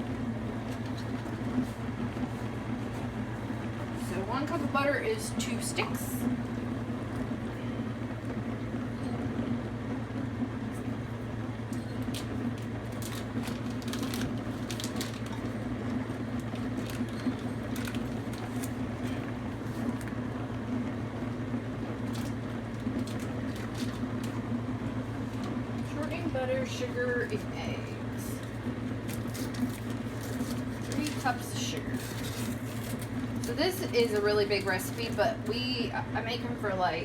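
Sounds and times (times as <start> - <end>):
dishwasher humming: 0.0 - 37.0.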